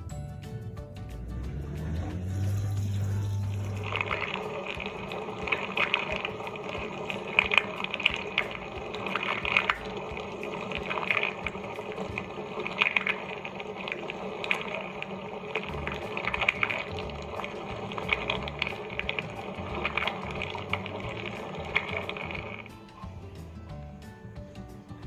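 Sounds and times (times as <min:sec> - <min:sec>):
dishwasher pump hum: 0:00.0 - 0:24.0
water spraying inside dishwasher: 0:00.4 - 0:24.4.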